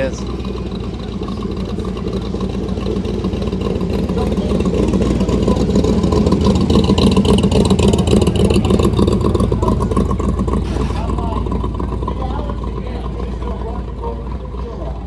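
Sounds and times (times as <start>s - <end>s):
car engine and exhaust driving past: 0.0s - 15.0s.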